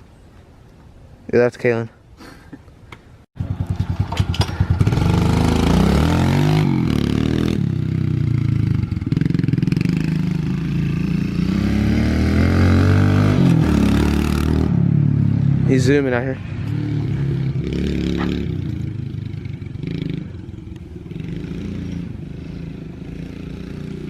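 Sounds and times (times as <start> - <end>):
motorbike engine revving: 3.4 - 15.8, 16.5 - 24.0.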